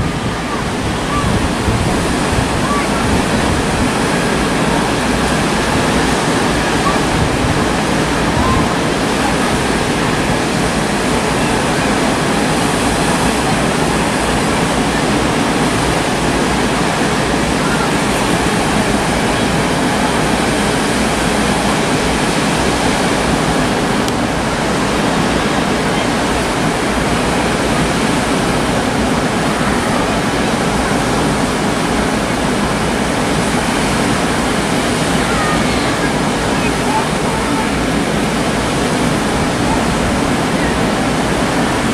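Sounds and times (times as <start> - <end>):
choppy sea: 0.0 - 41.9
rushing wind: 0.0 - 41.9.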